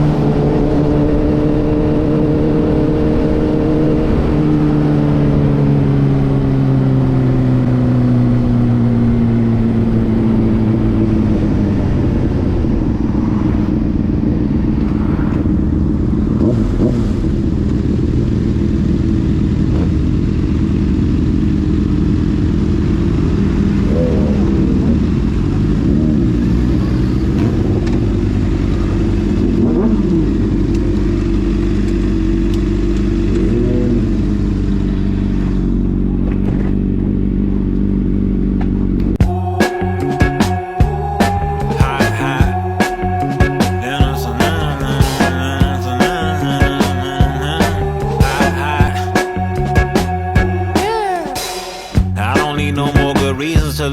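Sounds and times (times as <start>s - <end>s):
motorcycle engine running: 0.0s - 50.9s, 51.9s - 53.9s.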